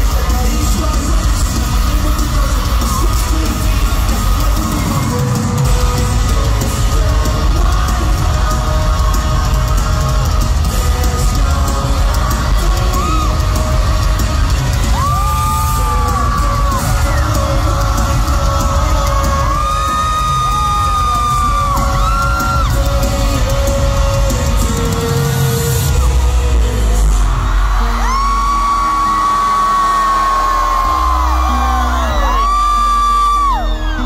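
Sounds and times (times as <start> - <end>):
crowd yelling and whooping: 0.0 - 34.0
loud live rock music: 0.0 - 34.0.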